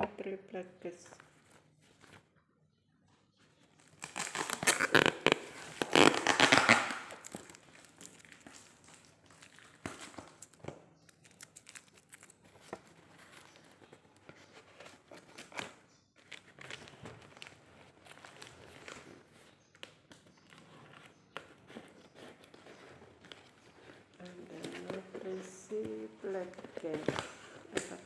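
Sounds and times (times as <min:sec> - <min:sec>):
cardboard crinkling and tearing: 0:03.6 - 0:28.0.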